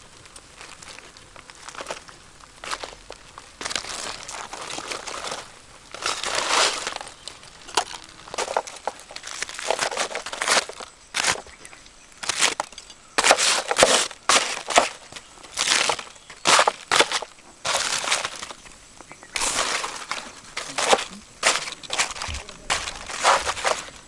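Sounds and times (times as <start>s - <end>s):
aluminium foil crinkling and tearing: 0.2s - 11.6s, 12.2s - 18.7s, 19.3s - 24.0s.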